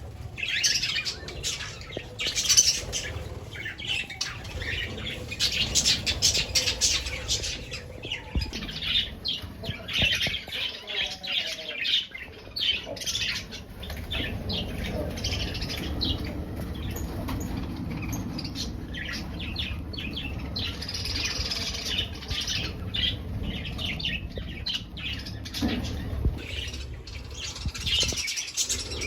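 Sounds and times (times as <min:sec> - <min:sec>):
steady low rumble: 0:00.0 - 0:10.5, 0:13.2 - 0:29.0
budgerigars chirping and chattering: 0:00.0 - 0:29.0.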